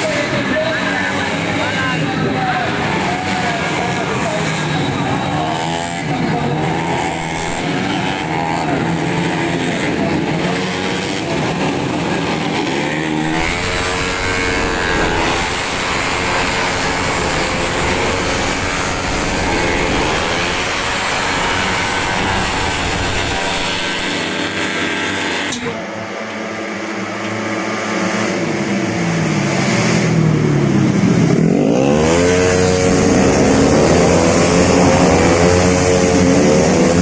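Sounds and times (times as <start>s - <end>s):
scooter engines racing: 0.0s - 37.0s.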